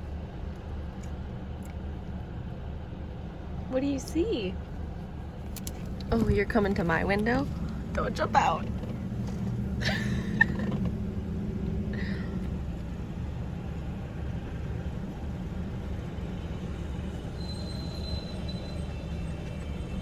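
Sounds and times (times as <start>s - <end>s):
car idling low hum: 0.0s - 20.0s.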